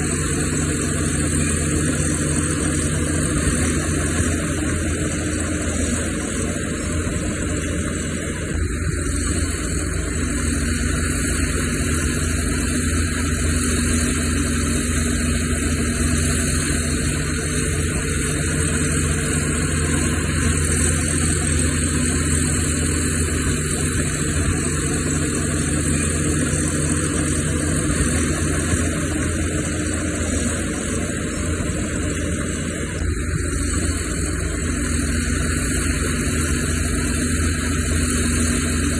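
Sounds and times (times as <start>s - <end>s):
diesel machinery running: 0.0s - 38.9s.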